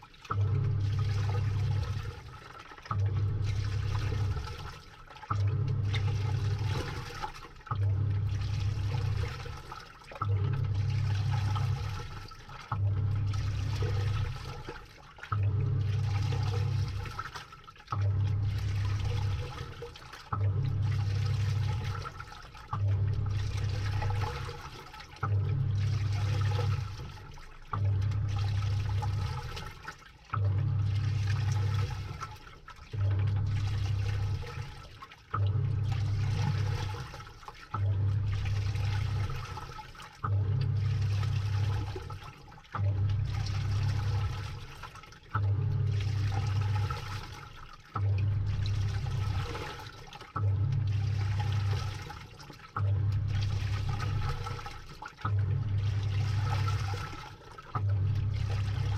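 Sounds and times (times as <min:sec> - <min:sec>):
washing machine motor humming: 0:00.0 - 0:58.9
water sloshing: 0:00.0 - 0:58.9.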